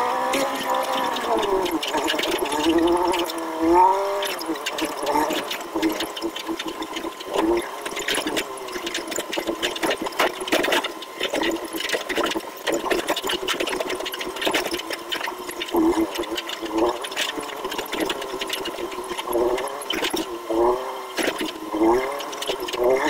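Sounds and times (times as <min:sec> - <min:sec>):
vehicle engine revving: 0:00.0 - 0:11.6, 0:15.6 - 0:23.0
sharp clicks and rattles: 0:00.3 - 0:23.0.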